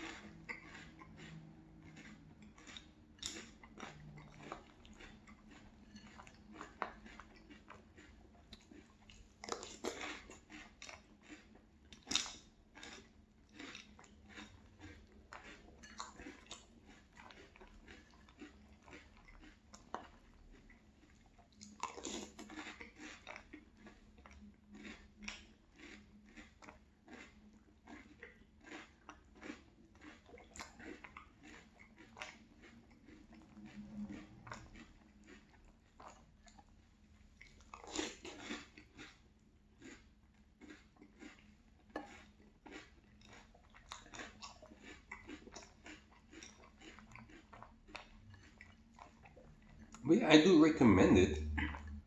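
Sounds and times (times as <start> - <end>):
person chewing crunchy cereal: 0.0 - 52.0.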